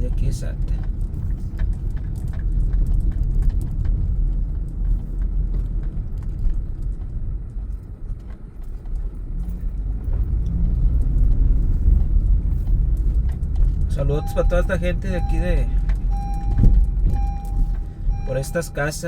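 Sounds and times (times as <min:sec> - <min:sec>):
car rumbling on the move: 0:00.0 - 0:19.0.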